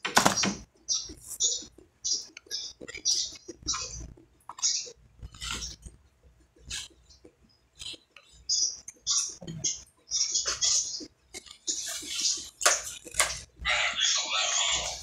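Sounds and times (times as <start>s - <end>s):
chewing and lip-smacking: 1.1s - 13.6s.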